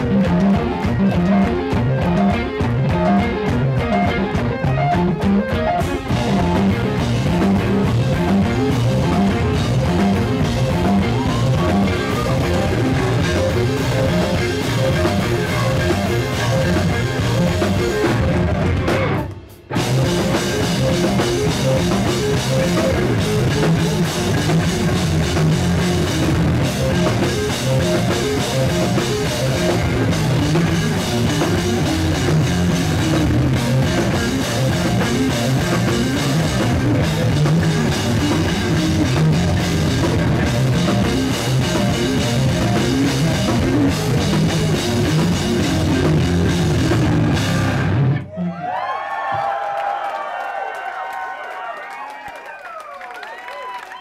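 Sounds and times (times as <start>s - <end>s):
rock band playing: 0.0s - 48.5s.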